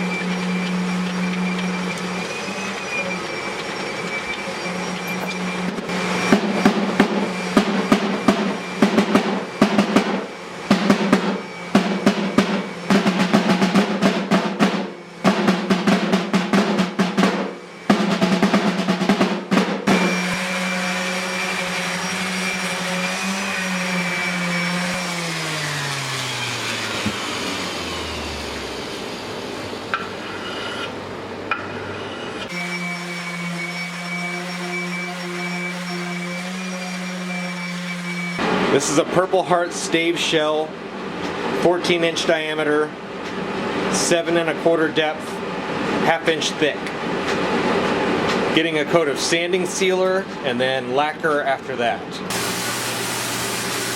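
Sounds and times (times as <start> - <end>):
workshop machine humming: 0.0 - 50.5, 52.1 - 53.9.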